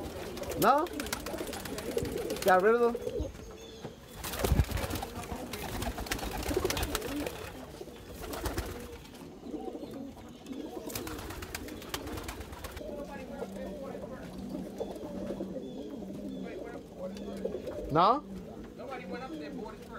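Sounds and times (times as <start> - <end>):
pigeons cooing: 0.0 - 19.9.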